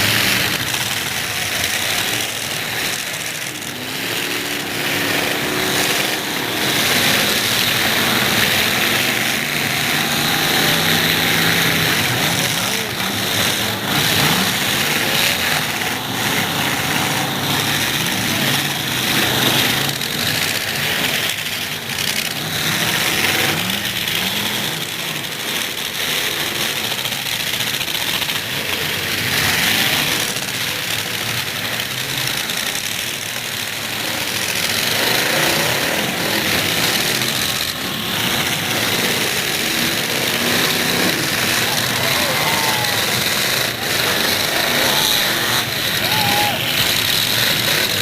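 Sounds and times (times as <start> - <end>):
truck engines revving: 0.0 - 48.0.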